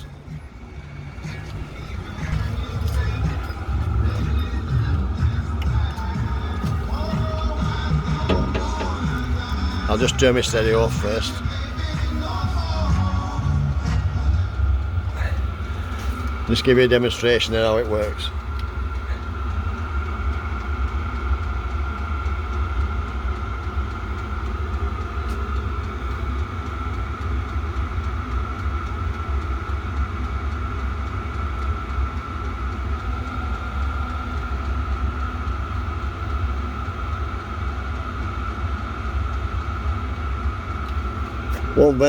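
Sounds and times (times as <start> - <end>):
blower fan whine: 0.0 - 42.0
diesel air heater rumble: 0.0 - 42.0.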